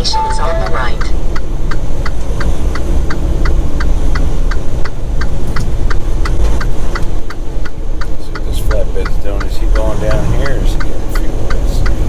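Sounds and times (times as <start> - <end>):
diesel truck engine rumble: 0.0 - 12.0
turn signal flasher clicking: 0.0 - 12.0.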